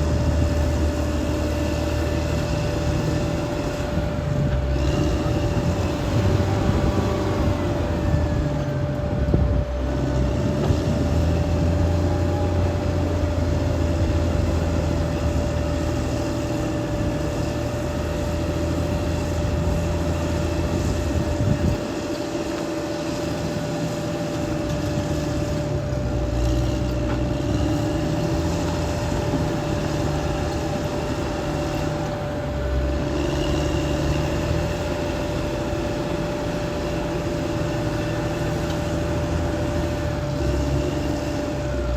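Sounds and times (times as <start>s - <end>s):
bulldozer diesel engine under load: 0.0s - 41.9s.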